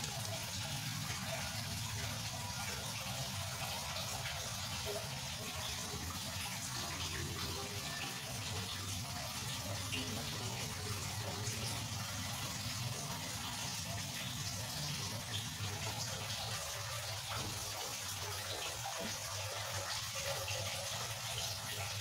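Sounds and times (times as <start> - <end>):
aquarium water splashing: 0.0 - 22.0.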